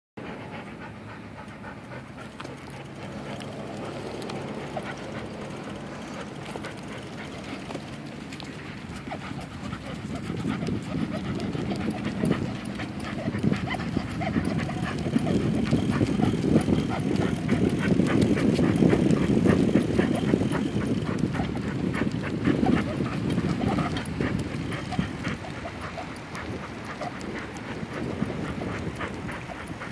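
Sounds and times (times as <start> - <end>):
bicycle rumbling: 0.2 - 29.9
dog panting: 0.2 - 29.9
quick ticks: 0.8 - 29.9.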